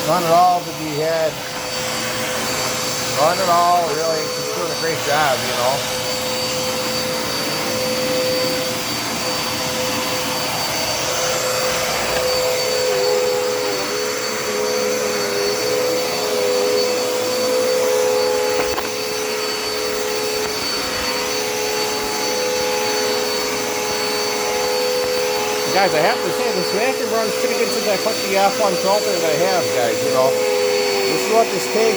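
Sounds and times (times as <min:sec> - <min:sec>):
vacuum cleaner running: 0:00.0 - 0:31.9.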